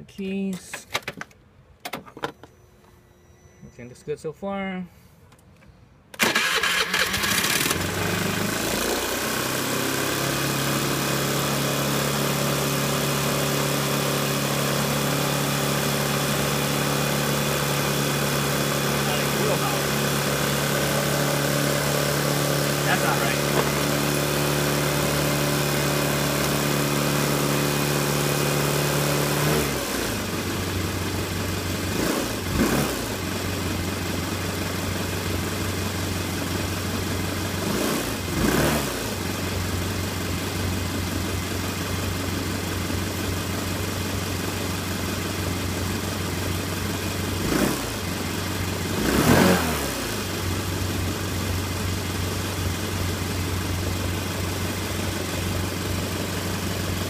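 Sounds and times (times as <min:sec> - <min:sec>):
scooter engine idling and revving: 0:06.2 - 0:57.0.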